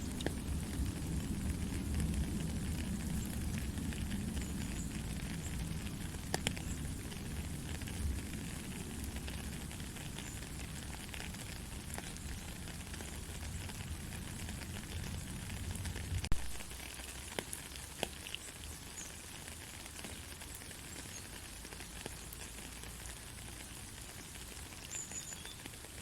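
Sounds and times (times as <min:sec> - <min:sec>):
sharp drips: 0:00.0 - 0:26.0
soft steady rain: 0:00.0 - 0:26.0.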